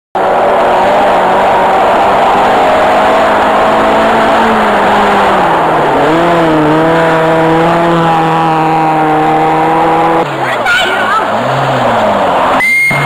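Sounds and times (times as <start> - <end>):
car engine running hard: 0.2 - 13.0.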